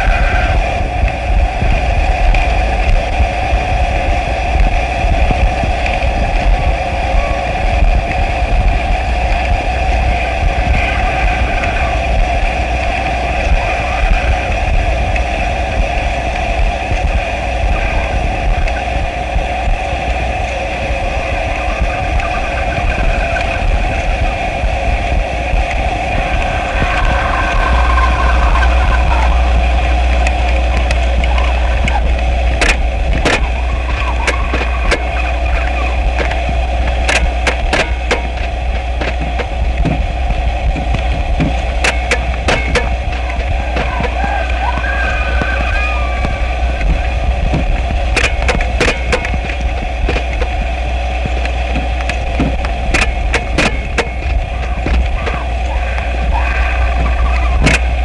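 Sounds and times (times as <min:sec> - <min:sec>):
faint wavering tones: 0:00.0 - 0:58.0
loud low rumble: 0:00.0 - 0:58.0
low hum: 0:00.0 - 0:58.0
sharp crackling clicks: 0:00.0 - 0:58.0.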